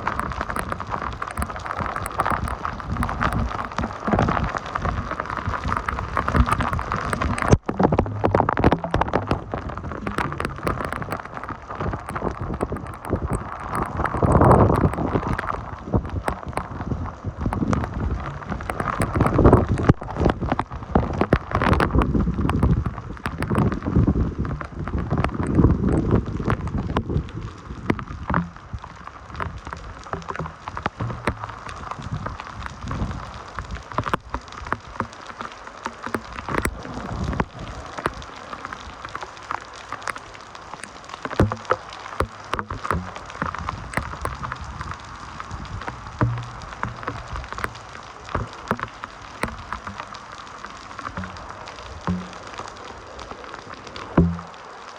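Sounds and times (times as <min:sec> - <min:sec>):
heavy rain pattering and splashing: 0:00.0 - 0:54.9
wind gusts: 0:00.0 - 0:54.9.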